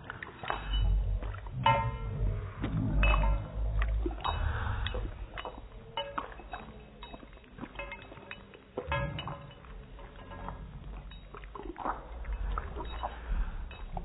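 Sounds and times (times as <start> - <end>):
dog lapping: 0.0 - 14.0.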